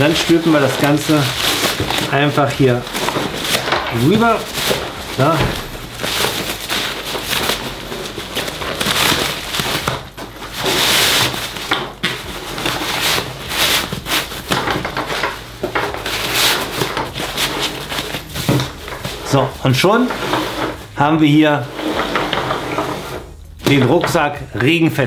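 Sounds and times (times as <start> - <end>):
rain cover rustling: 0.0 - 24.3.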